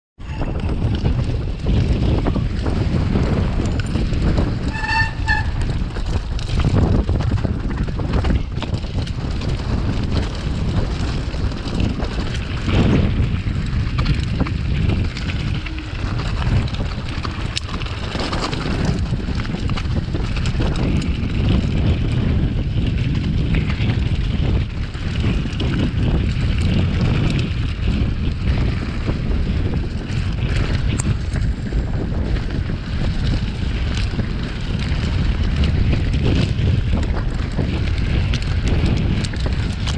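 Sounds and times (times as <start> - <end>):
bike rattling and knocking: 0.2 - 39.9
tyres on rocky dirt: 0.2 - 39.9
wind buffeting microphone: 0.2 - 39.9.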